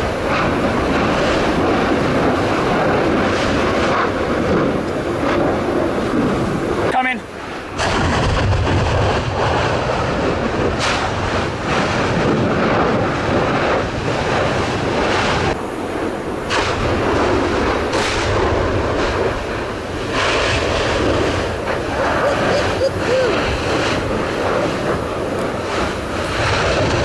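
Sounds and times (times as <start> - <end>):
lava fissure deep rumbling rush: 0.0 - 27.0
lava spatter blasts: 0.0 - 27.0.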